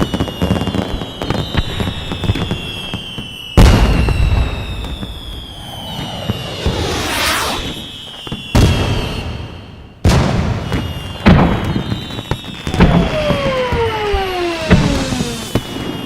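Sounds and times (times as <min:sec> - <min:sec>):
fireworks crackling: 0:00.0 - 0:09.2, 0:10.7 - 0:16.0
firework booms: 0:00.0 - 0:16.0
high whistle falling in pitch: 0:01.1 - 0:09.9, 0:11.7 - 0:16.0.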